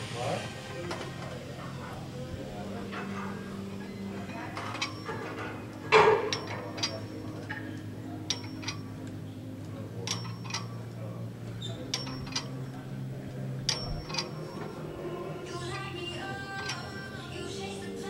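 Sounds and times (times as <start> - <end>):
low steady hum: 0.0 - 18.0
weight stack plates clinking: 0.9 - 9.1, 10.0 - 18.0.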